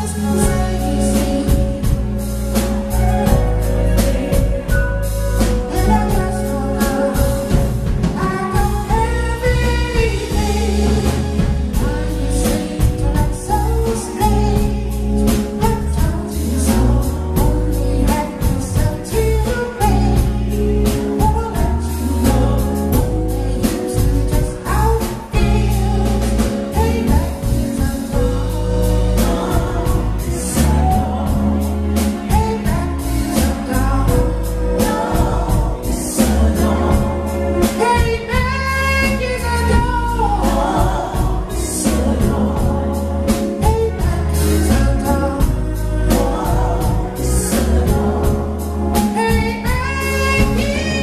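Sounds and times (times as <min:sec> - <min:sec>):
drums: 0:00.0 - 0:51.0
electric bass: 0:00.0 - 0:51.0
keyboard: 0:00.0 - 0:51.0
man singing lead: 0:00.0 - 0:51.0.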